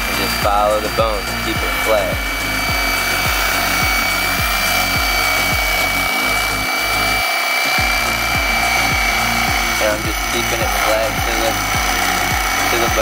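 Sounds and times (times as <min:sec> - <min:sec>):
electric knife motor whine: 0:00.0 - 0:13.0.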